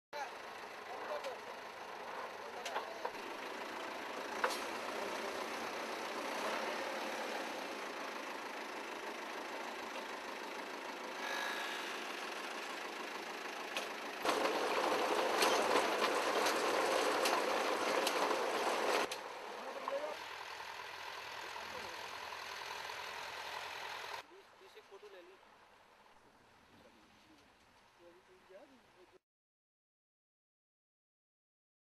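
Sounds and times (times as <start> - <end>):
tractor engine and machinery: 0.2 - 29.1.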